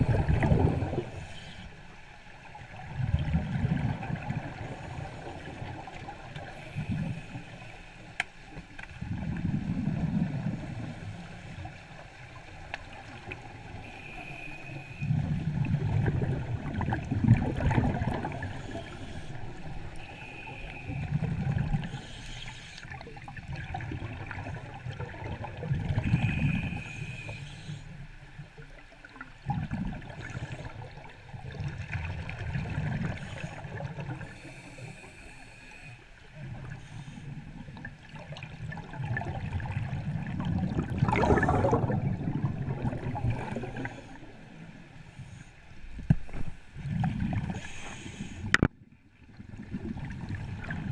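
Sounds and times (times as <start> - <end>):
scuba exhaust bubbles gurgling: 0.0 - 1.8, 2.4 - 44.9, 46.7 - 50.9.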